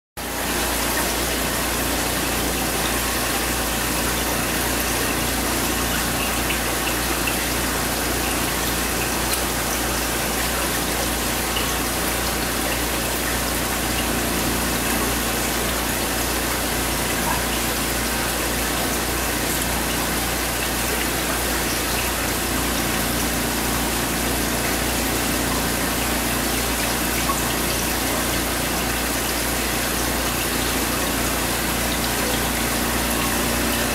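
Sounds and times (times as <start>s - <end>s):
water flowing: 0.2s - 33.9s
water pumps running: 0.2s - 33.9s.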